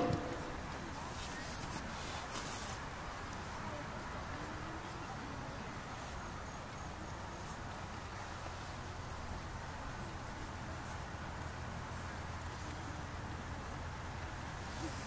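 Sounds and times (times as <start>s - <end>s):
steady hiss with low rumble: 0.0s - 15.0s.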